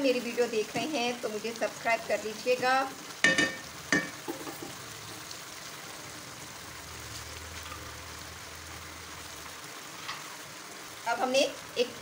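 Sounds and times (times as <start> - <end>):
noodles bubbling and sizzling: 0.0 - 12.0.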